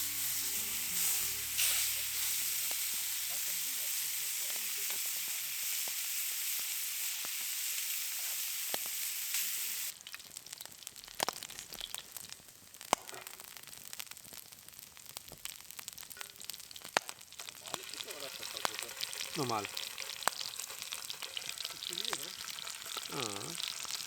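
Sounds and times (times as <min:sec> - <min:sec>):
fire crackling with sharp pops: 0:00.0 - 0:24.0
steak sizzling in a pan: 0:00.0 - 0:24.0.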